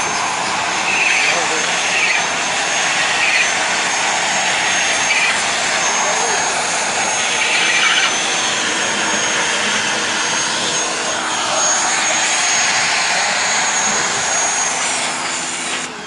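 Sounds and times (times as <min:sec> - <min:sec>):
pressure washer water jet hissing: 0:00.0 - 0:16.0
thin high whine: 0:00.0 - 0:16.0.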